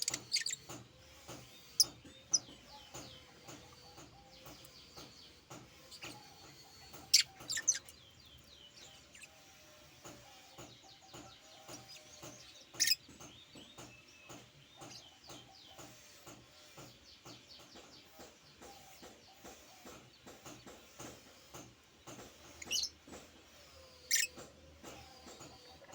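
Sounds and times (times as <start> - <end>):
bird chirping and twittering: 0.0 - 25.9.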